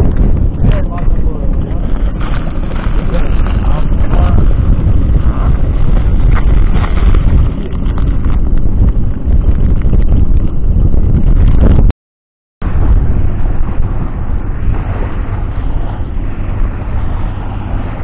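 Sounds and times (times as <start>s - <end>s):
wind buffeting microphone: 0.0s - 11.9s, 12.6s - 18.0s.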